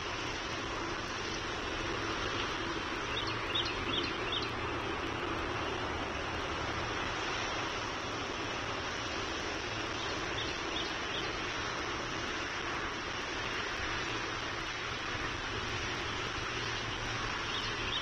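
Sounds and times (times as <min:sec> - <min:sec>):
outdoor background roar: 0:00.0 - 0:18.0.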